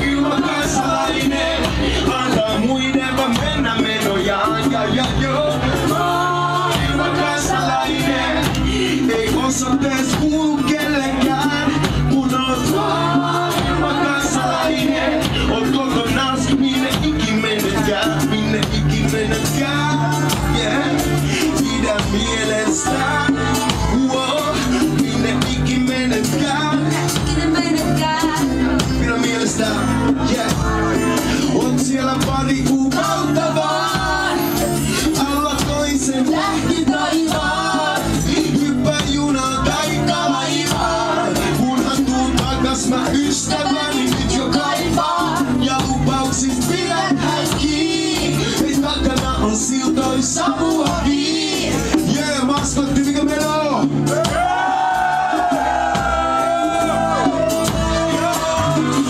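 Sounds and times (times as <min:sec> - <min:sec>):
acoustic guitar strumming: 0:00.0 - 0:59.0
live reggae band: 0:00.0 - 0:59.0
man singing into microphone: 0:00.0 - 0:59.0.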